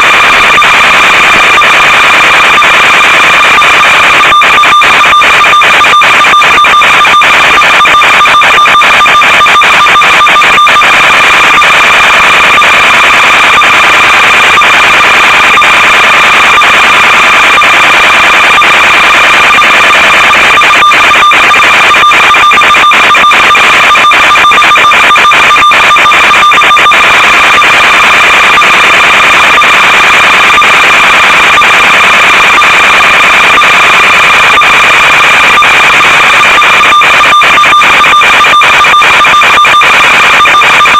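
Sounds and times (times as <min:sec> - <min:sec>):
continual crackle: 0:00.0 - 0:08.2, 0:08.8 - 0:40.9
harsh electronic buzz: 0:00.0 - 0:40.9.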